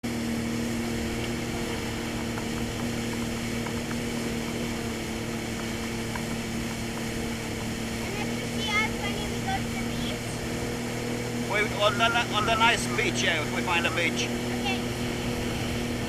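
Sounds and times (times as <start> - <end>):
jet ski engine drone: 0.0 - 16.0
rough rushing noise: 0.0 - 16.0.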